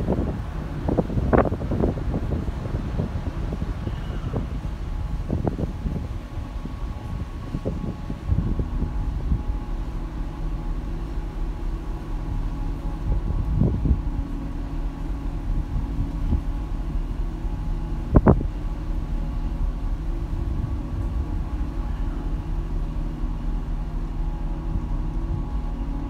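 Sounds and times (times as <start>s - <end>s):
ship machinery hum: 0.0s - 26.0s.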